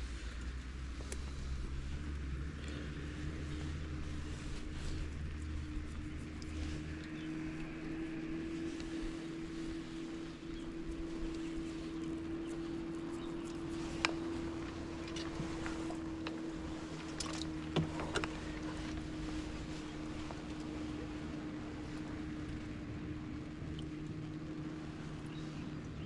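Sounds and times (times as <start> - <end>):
motor hum: 0.0 - 26.0.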